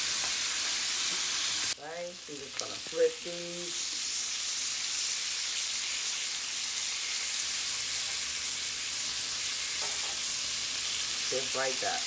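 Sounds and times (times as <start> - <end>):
chicken sizzling on a grill: 0.0 - 12.0.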